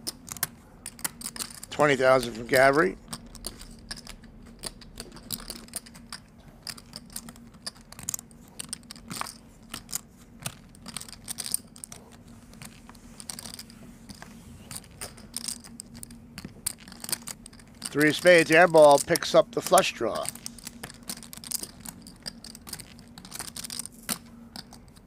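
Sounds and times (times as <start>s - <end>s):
faint steady hum: 0.0s - 25.0s
poker chips clicking: 0.0s - 25.0s.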